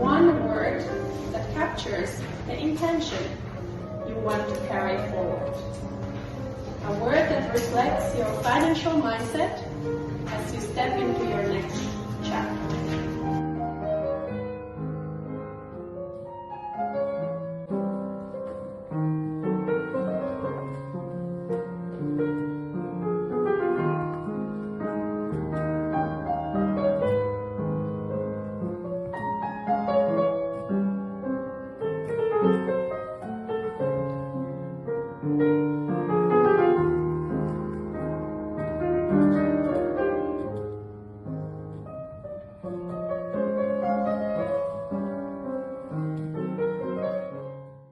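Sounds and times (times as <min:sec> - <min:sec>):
slow calm piano piece: 0:00.0 - 0:47.9.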